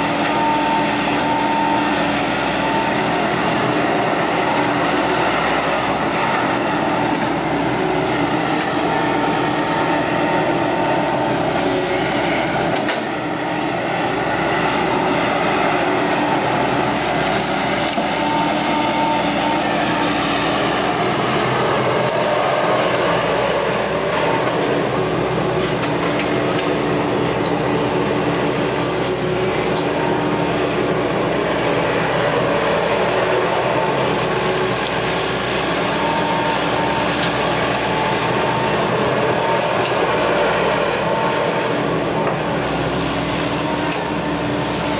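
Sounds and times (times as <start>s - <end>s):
excavator engine and hydraulics: 0.0s - 44.9s.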